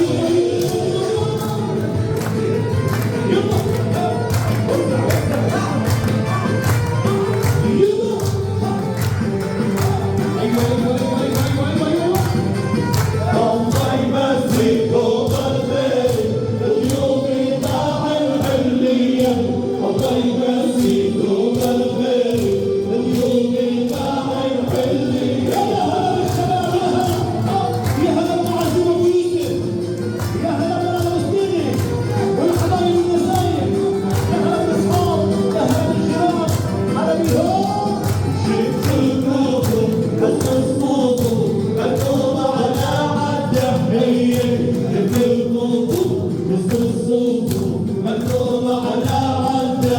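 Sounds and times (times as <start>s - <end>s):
drum and tambourine beat: 0.0s - 49.9s
men singing in chorus: 0.0s - 49.9s.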